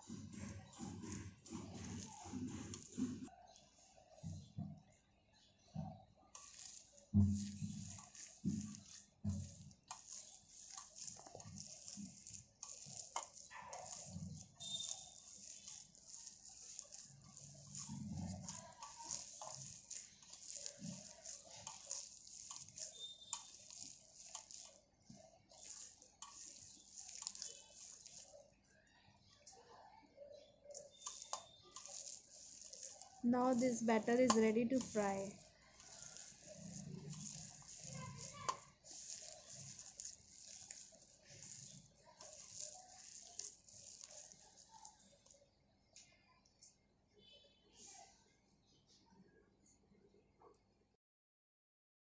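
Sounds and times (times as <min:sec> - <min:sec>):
hand squishing wet batter: 0:00.0 - 0:48.1.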